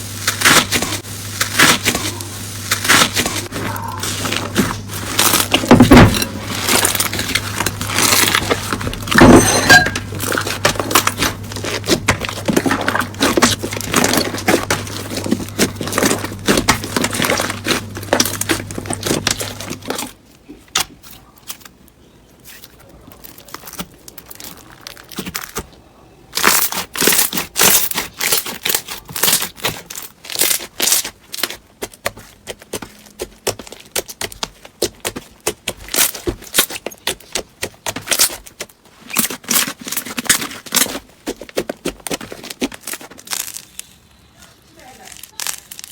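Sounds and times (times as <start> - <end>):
slime crackling and popping: 0.0 - 9.3, 10.0 - 20.2, 21.5 - 45.9.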